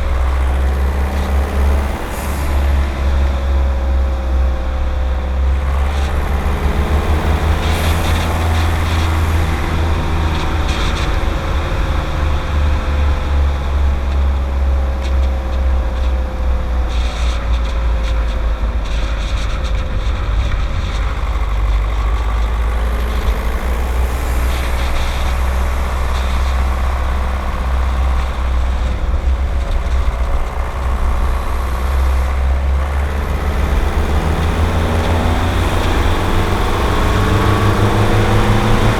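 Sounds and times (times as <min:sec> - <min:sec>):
diesel engine running while driving: 0:00.0 - 0:38.9.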